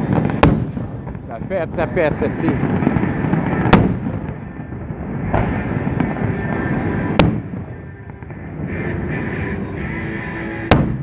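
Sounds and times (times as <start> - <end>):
loud firework bang: 0.0 - 9.3, 10.7 - 11.0
firework crack: 0.0 - 11.0
fireworks rumbling explosions: 0.0 - 11.0.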